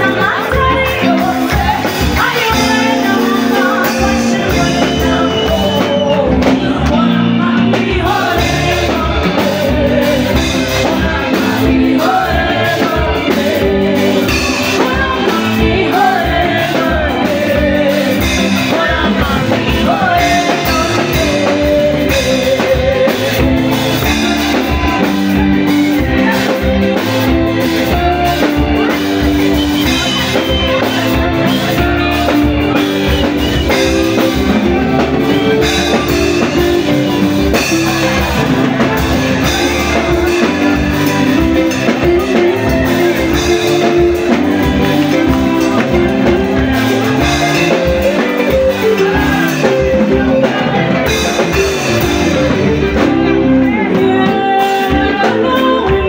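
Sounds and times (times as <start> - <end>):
backing instruments: 0.0 - 56.0
person singing: 0.0 - 56.0
steady drum beat: 0.0 - 56.0.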